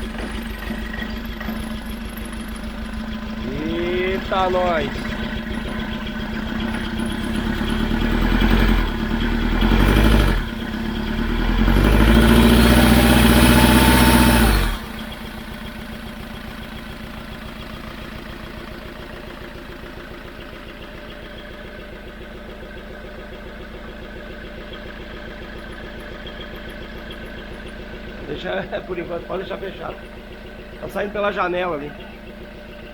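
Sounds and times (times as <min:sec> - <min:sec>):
car engine revving and idling: 0:00.0 - 0:32.9.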